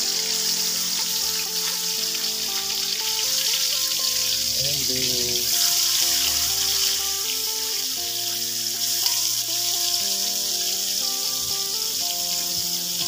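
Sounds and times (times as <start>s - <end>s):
background music of held notes: 0.0s - 13.0s
tomato sizzling in hot oil: 0.0s - 13.0s.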